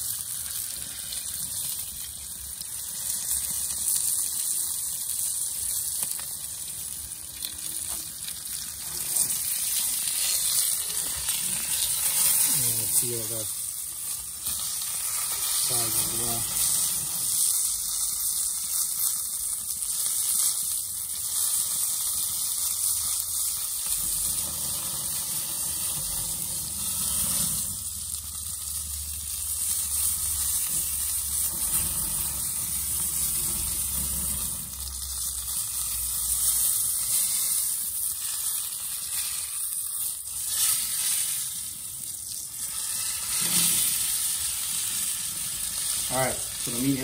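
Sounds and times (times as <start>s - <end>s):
meat sizzling on hot iron: 0.0s - 47.0s.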